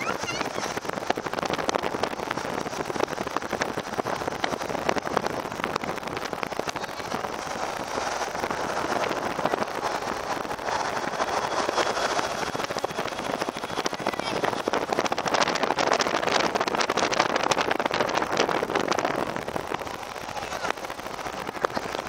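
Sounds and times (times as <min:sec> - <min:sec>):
car road and wind noise: 0:00.0 - 0:22.0
wind crackle on microphone: 0:00.0 - 0:22.0.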